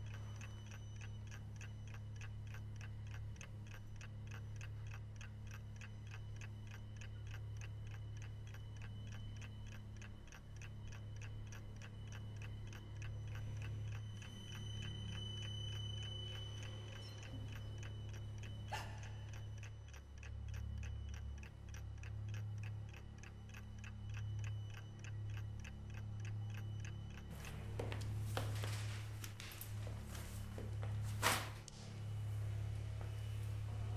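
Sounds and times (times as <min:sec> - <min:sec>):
clock ticking: 0:00.0 - 0:29.6
low hum: 0:00.0 - 0:33.9.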